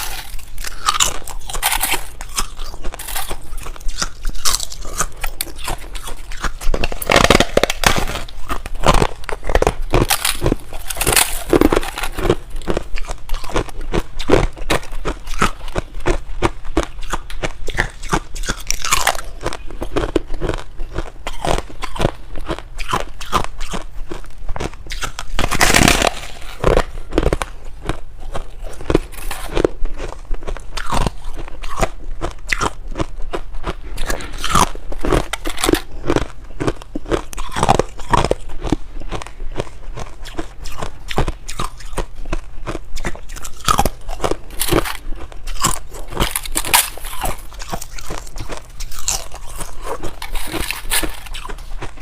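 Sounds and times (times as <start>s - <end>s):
frost crunching being chewed: 0.0s - 52.0s.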